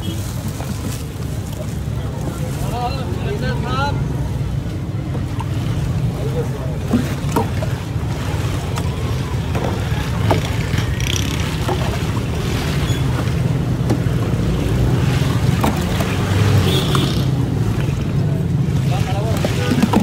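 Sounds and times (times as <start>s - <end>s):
street background rumble: 0.0s - 20.0s.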